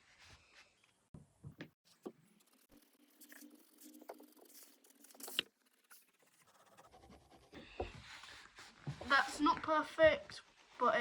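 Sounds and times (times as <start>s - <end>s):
pencil scratching on paper: 1.9s - 11.0s.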